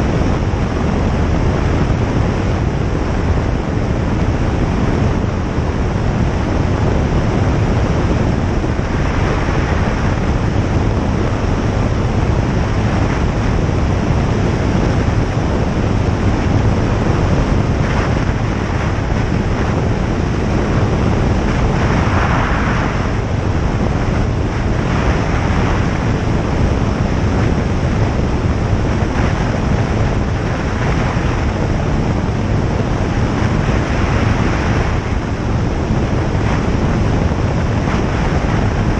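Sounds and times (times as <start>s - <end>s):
airflow rushing: 0.0s - 38.9s
light aircraft engine and propeller: 0.0s - 38.9s.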